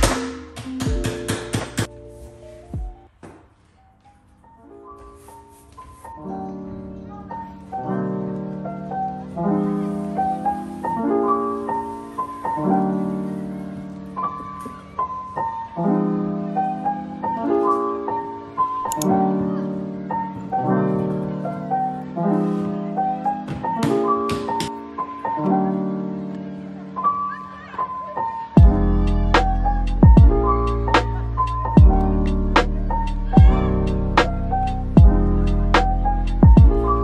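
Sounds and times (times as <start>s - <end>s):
soft piano chords: 3.8s - 37.0s.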